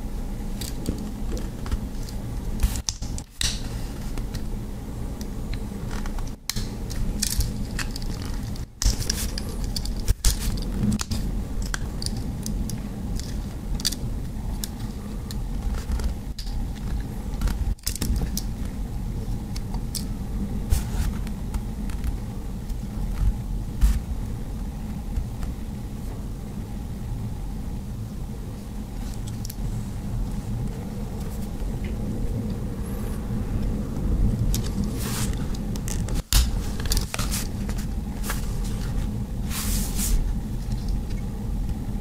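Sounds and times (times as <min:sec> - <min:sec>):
steady low rumble: 0:00.0 - 0:42.0.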